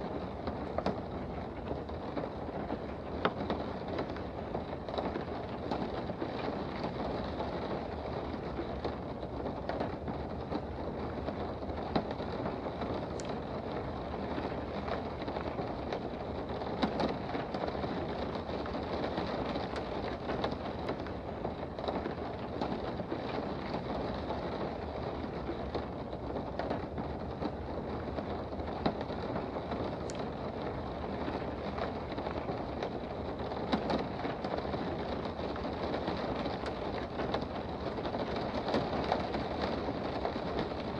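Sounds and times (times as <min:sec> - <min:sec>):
rain heard from indoors: 0:00.0 - 0:40.9.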